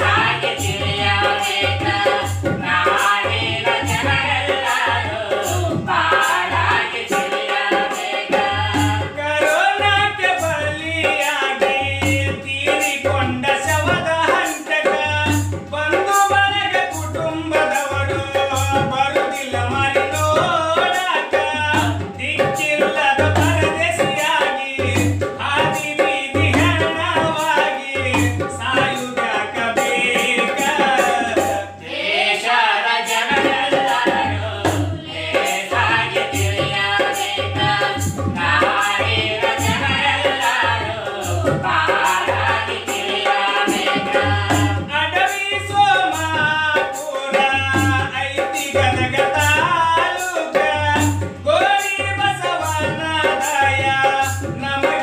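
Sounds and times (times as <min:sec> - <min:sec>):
hand drum beating: 0:00.0 - 0:31.7, 0:33.2 - 0:55.0
voices singing together: 0:00.0 - 0:55.0.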